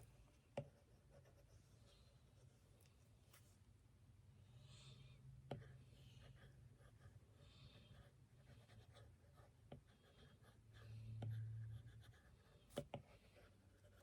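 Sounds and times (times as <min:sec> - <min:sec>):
faint scratching of drawing strokes: 0:00.2 - 0:03.6, 0:04.6 - 0:14.0.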